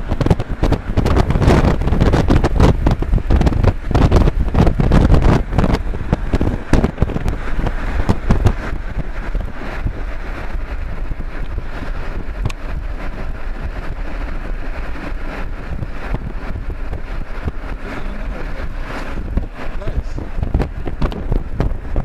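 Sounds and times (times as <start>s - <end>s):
car road noise: 0.0s - 22.0s
wind buffeting microphone: 0.0s - 22.0s.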